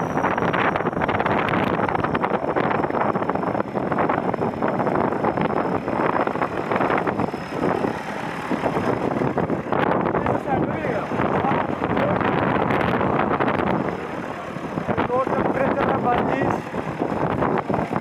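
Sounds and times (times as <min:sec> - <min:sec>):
tractor engine rumbling: 0:00.0 - 0:18.0
wind buffeting microphone: 0:00.0 - 0:18.0.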